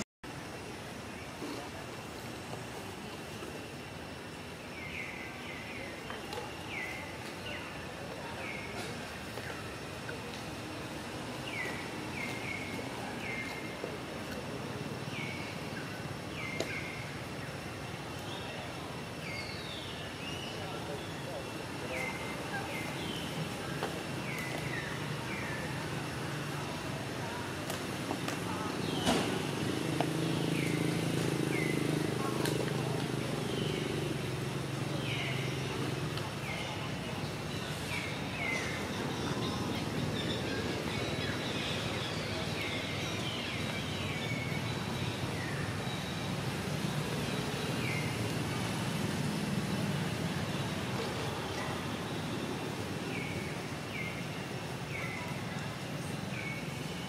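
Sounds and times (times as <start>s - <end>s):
background hiss: 0.3s - 57.0s
birds chirping: 0.6s - 57.0s.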